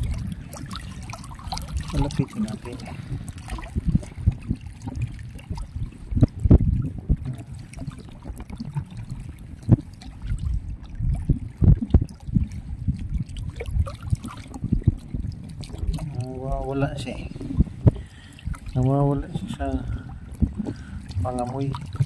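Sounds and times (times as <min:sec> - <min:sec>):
low knocks and splashes: 0:00.0 - 0:22.0
water lapping among rocks: 0:00.0 - 0:22.0.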